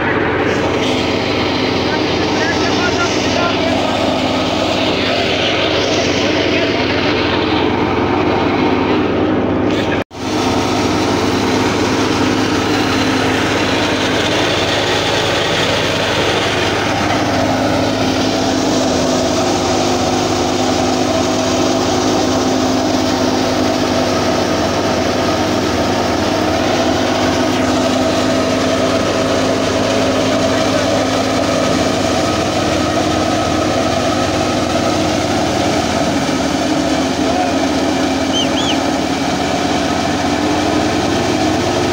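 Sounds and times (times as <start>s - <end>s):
thresher machine drone: 0.0s - 41.9s.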